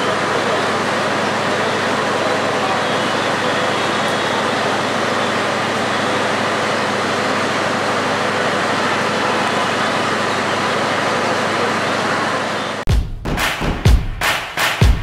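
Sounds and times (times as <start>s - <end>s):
diesel train departing: 0.0s - 12.9s
road traffic: 0.0s - 12.9s.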